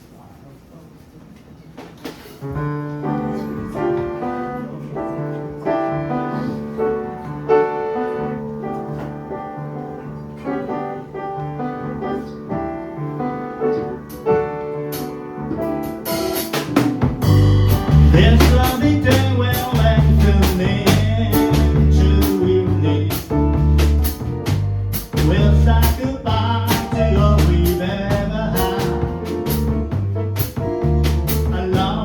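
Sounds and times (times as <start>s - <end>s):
jazz piano: 1.1s - 32.0s.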